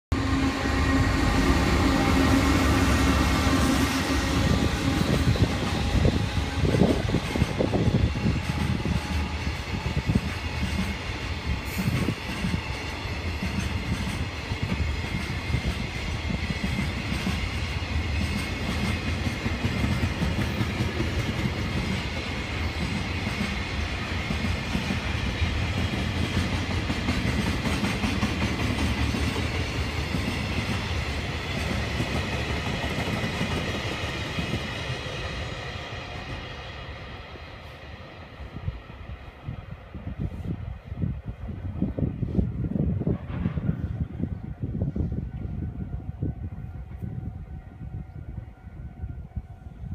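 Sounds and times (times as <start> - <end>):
freight train wheels rumbling on rails: 0.1 - 49.9.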